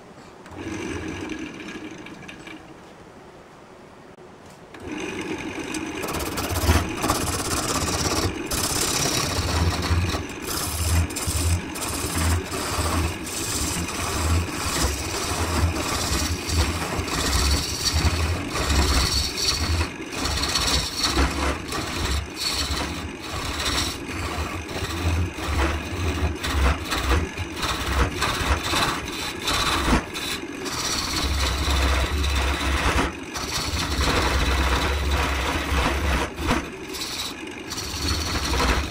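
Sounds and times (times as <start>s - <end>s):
wood lathe running: 0.5s - 2.7s, 4.8s - 38.9s
turning tool scraping wood: 4.8s - 38.9s.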